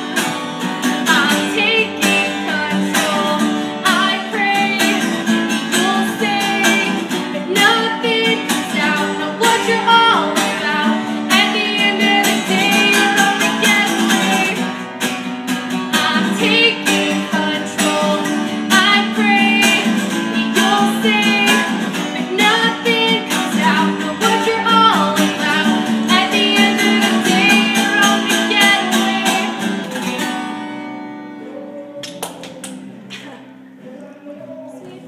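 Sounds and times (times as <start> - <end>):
acoustic guitar strumming: 0.0 - 34.6
woman singing: 1.0 - 14.7, 15.9 - 30.7.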